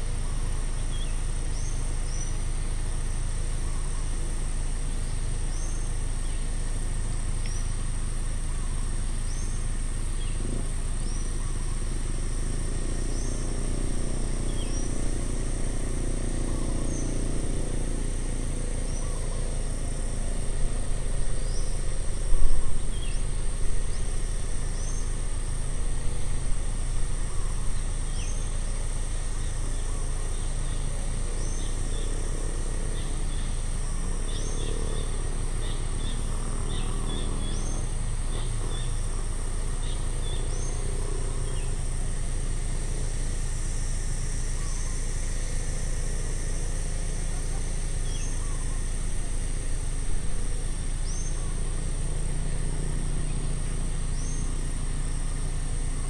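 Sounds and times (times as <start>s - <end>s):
insect whine: 0.0s - 56.0s
low outdoor rumble: 0.0s - 56.0s.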